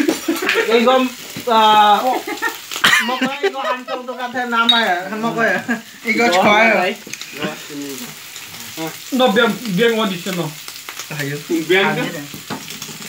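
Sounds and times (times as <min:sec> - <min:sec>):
men talking: 0:00.0 - 0:12.4
meat sizzling on a grill: 0:00.0 - 0:13.0.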